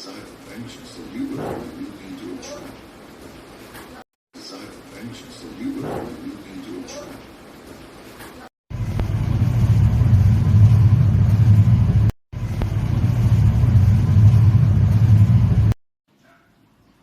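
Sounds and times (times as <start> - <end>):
fan airflow buffeting microphone: 0.3 - 3.8, 4.9 - 15.7.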